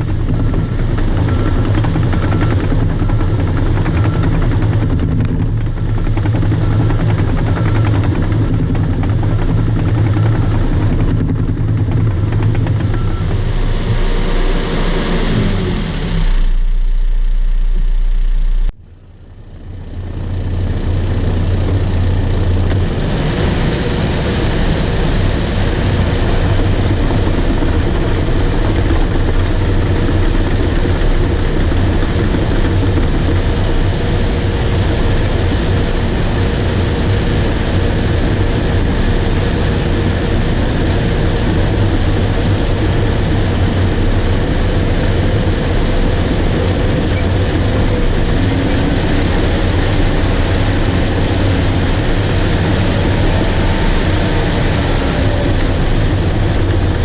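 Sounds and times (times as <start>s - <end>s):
bulldozer diesel engine running: 0.0s - 57.0s
track and dirt noise: 0.0s - 57.0s.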